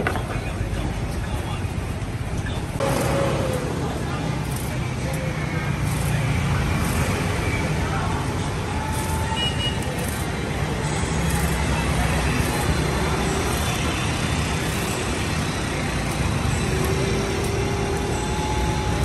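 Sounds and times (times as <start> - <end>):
street traffic rumble: 0.0 - 19.0
blade scraping sugar cane: 2.8 - 19.0.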